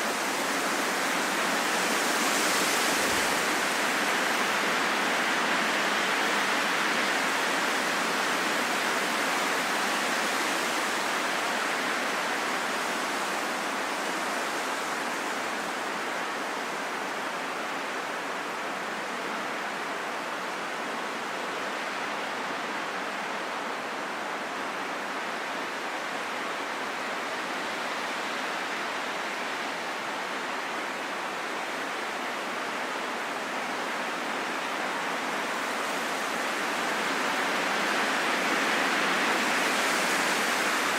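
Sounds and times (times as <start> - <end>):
steady rushing wind: 0.0 - 40.9.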